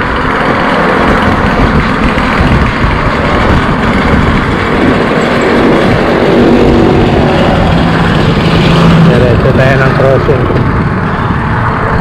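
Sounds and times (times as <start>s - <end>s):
road traffic: 0.0s - 12.0s
vehicle engine droning: 0.0s - 12.0s
wind rumbling on microphone: 0.0s - 12.0s.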